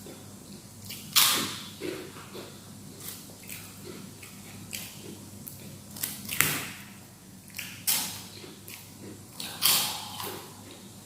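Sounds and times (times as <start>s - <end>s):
wet chewing: 0.0s - 6.7s, 7.5s - 10.9s.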